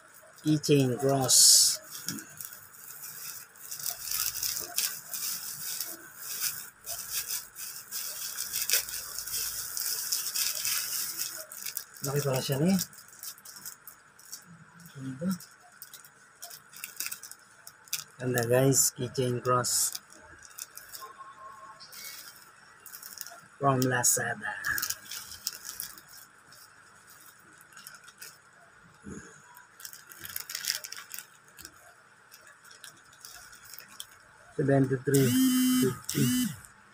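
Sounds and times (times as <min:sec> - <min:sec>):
plastic packaging crinkling: 0:00.0 - 0:21.3, 0:21.9 - 0:36.7.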